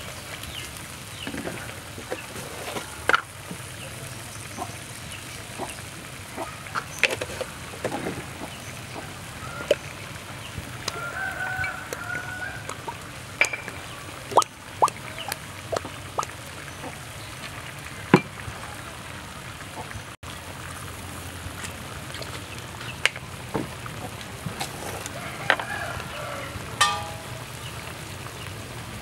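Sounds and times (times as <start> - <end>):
food sizzling in a wok: 0.0 - 19.4, 20.3 - 29.0.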